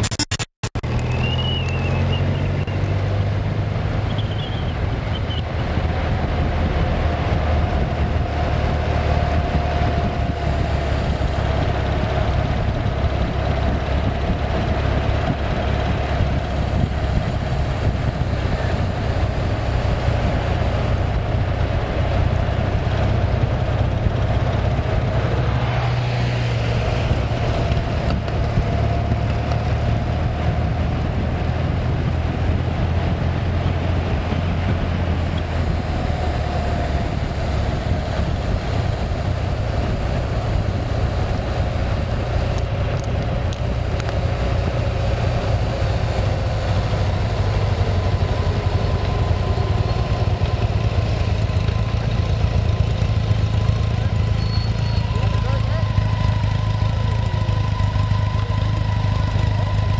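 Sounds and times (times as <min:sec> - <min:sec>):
wind rushing over microphone: 0:00.8 - 0:54.2
motorcycle engine droning: 0:00.9 - 0:59.9.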